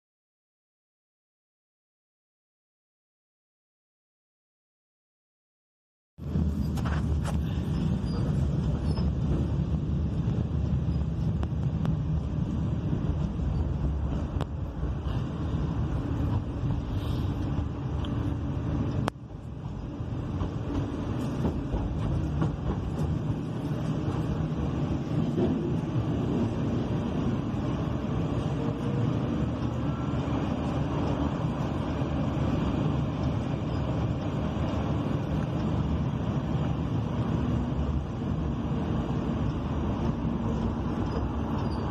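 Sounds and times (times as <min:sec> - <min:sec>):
tram rumble from inside: 0:06.2 - 0:41.9.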